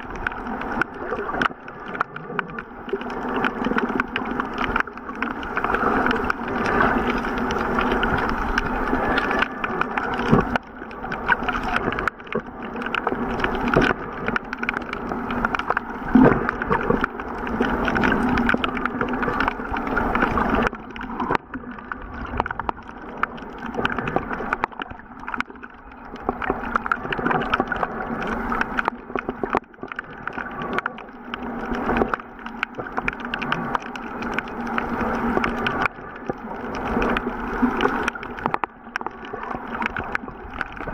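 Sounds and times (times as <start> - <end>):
muffled underwater water noise: 0.0 - 40.9
underwater crackles and clicks: 0.0 - 40.9.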